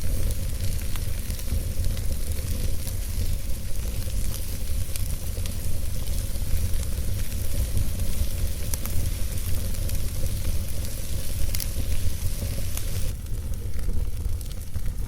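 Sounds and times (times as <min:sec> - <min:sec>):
campfire hissing: 0:00.0 - 0:15.0
fire crackles and pops: 0:00.0 - 0:15.0.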